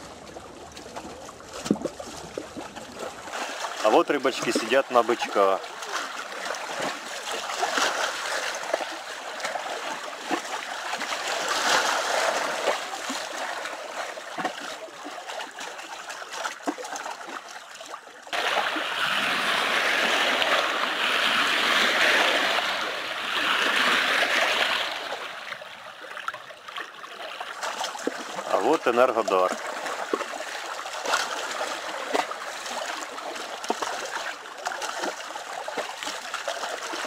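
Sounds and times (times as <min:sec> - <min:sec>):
small waves splashing: 0:00.0 - 0:37.0.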